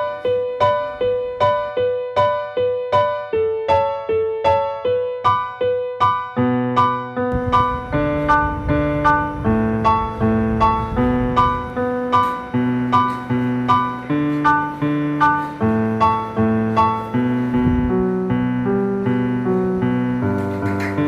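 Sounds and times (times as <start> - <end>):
keyboard melody: 0.0 - 21.0.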